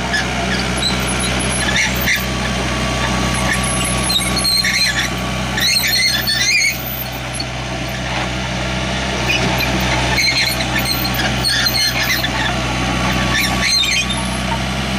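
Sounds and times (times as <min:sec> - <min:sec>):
diesel engine running: 0:00.0 - 0:14.9
high squealing: 0:00.1 - 0:08.1, 0:09.2 - 0:14.6.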